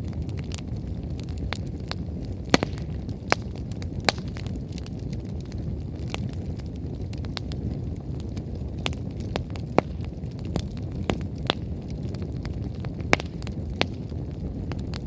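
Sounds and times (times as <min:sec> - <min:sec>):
bonfire flame rushing: 0:00.0 - 0:15.0
firewood crackling and popping: 0:00.0 - 0:15.0.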